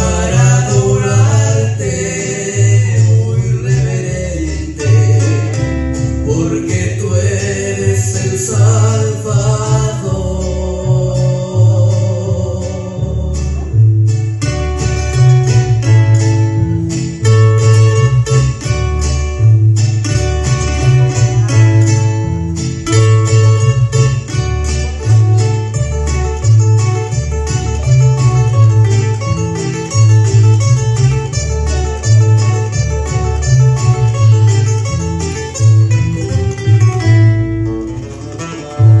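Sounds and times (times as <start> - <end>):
acoustic guitar music: 0.0 - 39.0
bass guitar line: 0.0 - 39.0.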